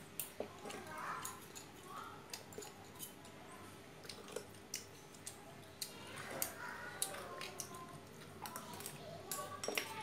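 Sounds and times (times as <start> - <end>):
soft chewing: 0.0 - 10.0.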